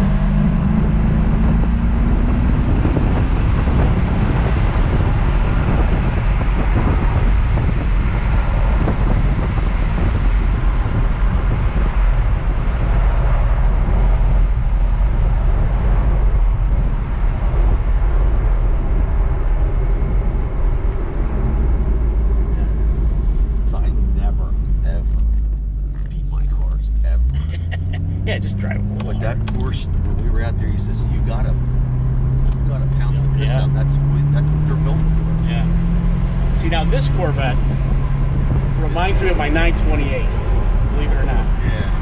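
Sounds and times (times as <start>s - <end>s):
car engine running: 0.0s - 42.0s
road and wind noise: 0.0s - 42.0s.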